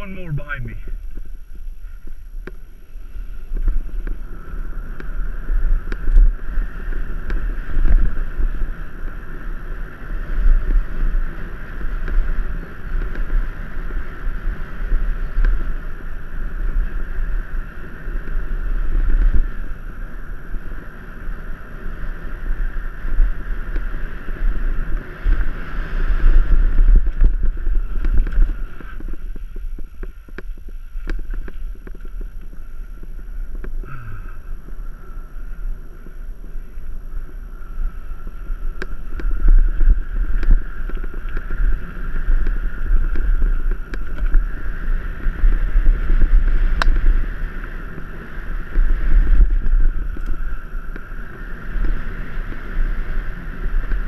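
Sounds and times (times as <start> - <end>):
bike rattling: 0.0 - 54.0
bike tyres rumbling on dirt: 0.0 - 54.0
wind buffeting microphone: 0.0 - 54.0.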